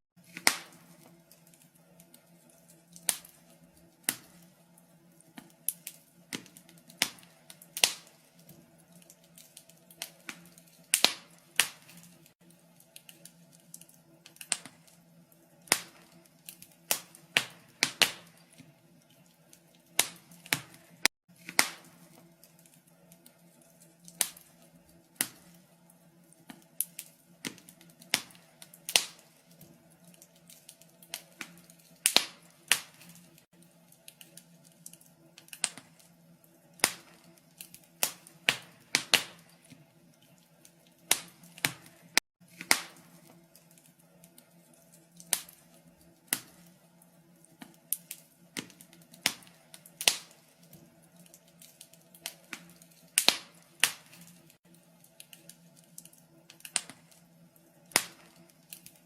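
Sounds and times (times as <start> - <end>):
wood fire crackling: 0.2 - 59.0.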